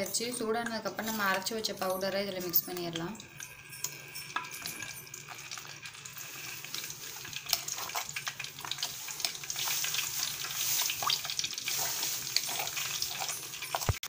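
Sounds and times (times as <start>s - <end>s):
hot oil sizzling and crackling: 0.0s - 14.0s.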